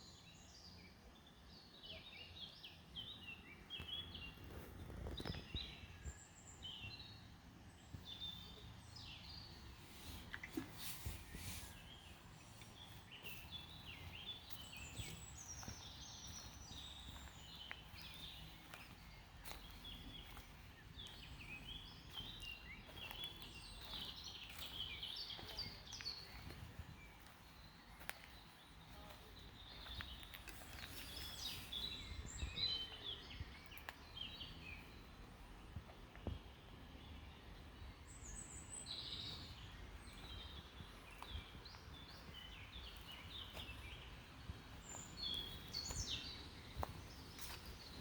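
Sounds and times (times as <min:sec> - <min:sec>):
birds chirping and warbling: 0:00.0 - 0:48.0.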